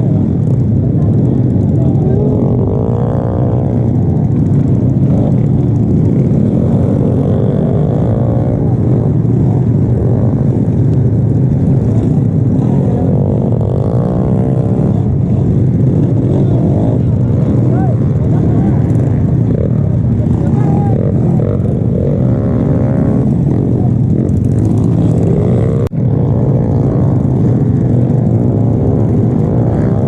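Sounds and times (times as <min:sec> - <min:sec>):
loud low rumble: 0:00.0 - 0:30.0
racing motorcycles passing: 0:00.0 - 0:30.0.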